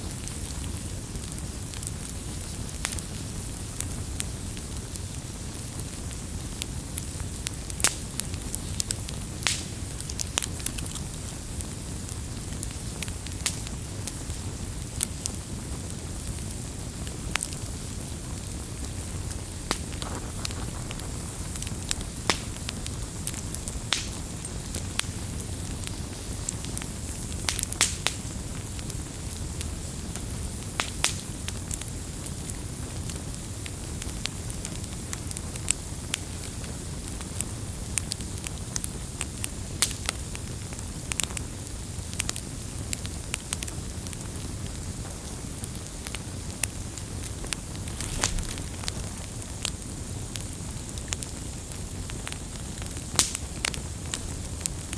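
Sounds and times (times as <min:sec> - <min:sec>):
fire rumbling and hissing: 0:00.0 - 0:54.9
logs popping and crackling: 0:00.1 - 0:54.9.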